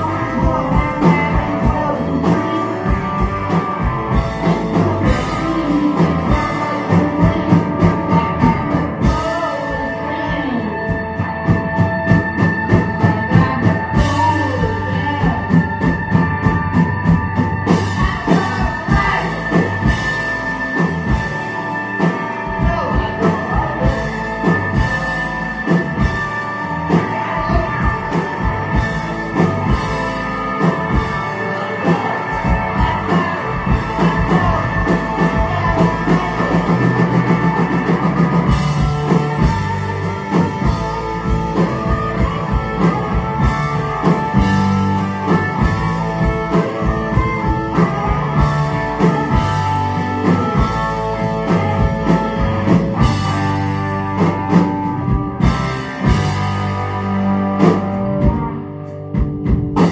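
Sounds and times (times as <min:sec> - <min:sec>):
bass: 0:00.0 - 0:59.9
drum kit beat: 0:00.0 - 0:59.9
electric guitars: 0:00.0 - 0:59.9.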